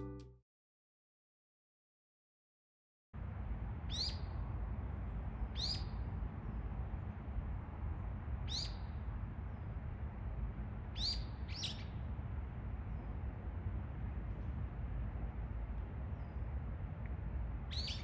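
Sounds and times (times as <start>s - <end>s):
bird calling with sharp high notes: 3.2s - 18.0s
low outdoor rumble: 3.2s - 18.0s.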